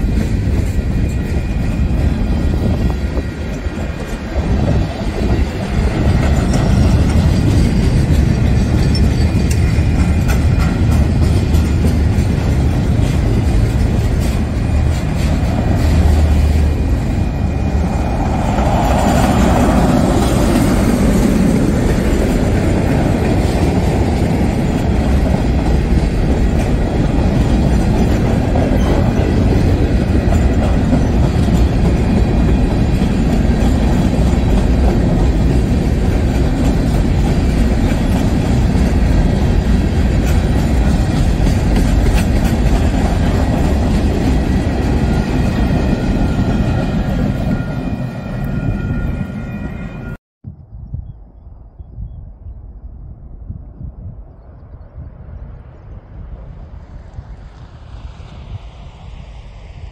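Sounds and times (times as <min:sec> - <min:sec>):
train wheels rolling on rails: 0:00.0 - 0:50.2.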